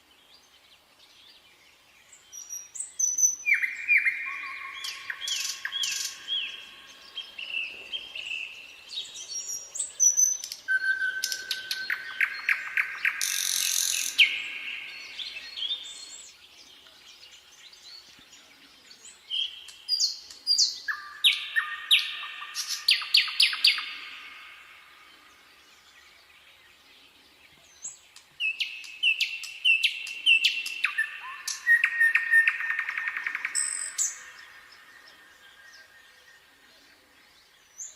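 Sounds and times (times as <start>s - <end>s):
nightingale singing: 0.0s - 37.9s.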